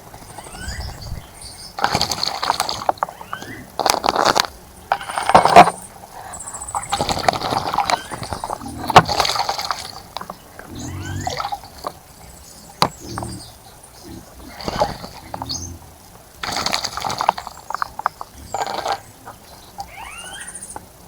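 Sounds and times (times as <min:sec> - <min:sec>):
bird splashing water: 0:00.0 - 0:21.0.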